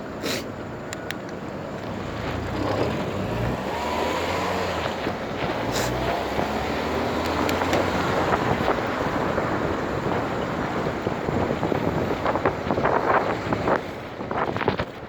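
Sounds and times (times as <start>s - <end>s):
road and traffic noise: 0.0s - 15.0s
wind buffeting microphone: 1.4s - 15.0s.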